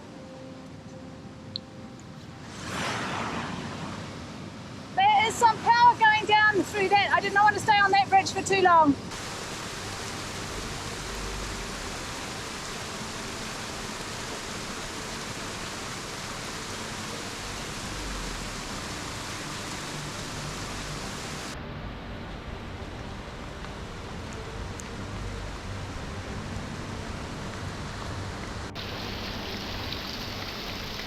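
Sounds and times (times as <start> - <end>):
waterfall roaring: 2.5 - 21.6, 22.4 - 31.0.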